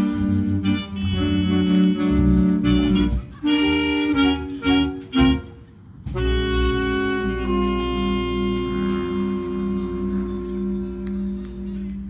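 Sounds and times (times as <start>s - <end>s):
big band brass hits: 0.0s - 12.0s.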